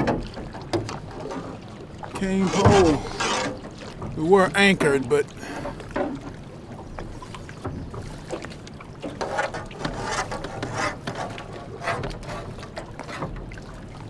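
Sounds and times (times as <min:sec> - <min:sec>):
water lapping against boat hull: 0:00.0 - 0:14.0.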